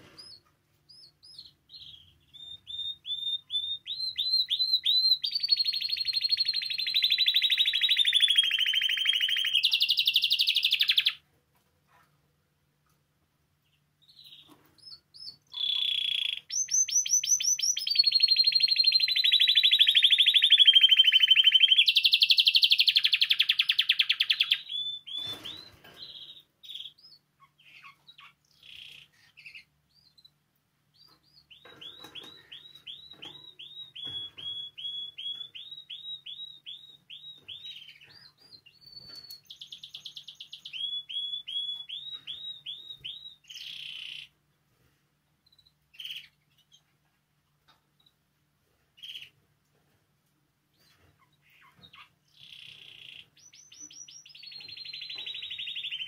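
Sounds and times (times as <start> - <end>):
canary singing: 0.0 - 11.2, 13.6 - 44.4, 45.4 - 47.0, 49.0 - 49.4, 50.7 - 56.0.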